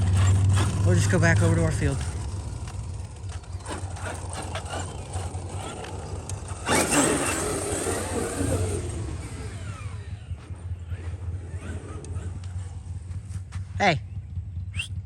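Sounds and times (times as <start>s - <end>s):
rc monster truck driving: 0.0s - 13.8s.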